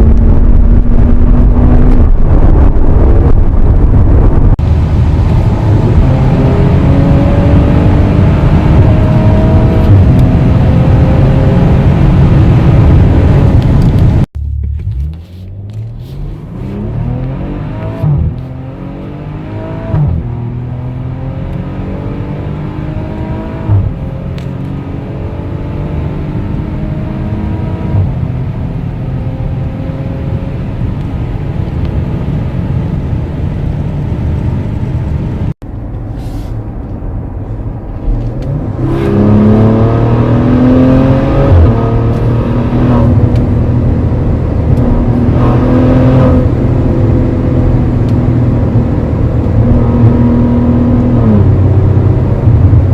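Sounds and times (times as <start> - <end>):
car engine accelerating and shifting: 0.0 - 52.9.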